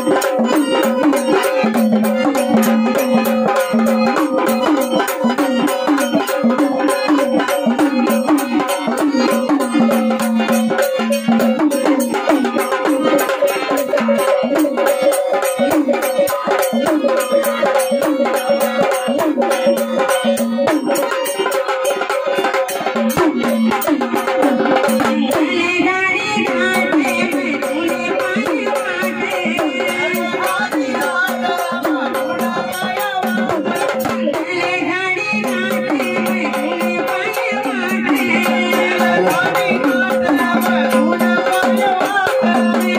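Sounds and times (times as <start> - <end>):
fast hand drum: 0.0 - 42.9
rattling percussion: 0.0 - 42.9.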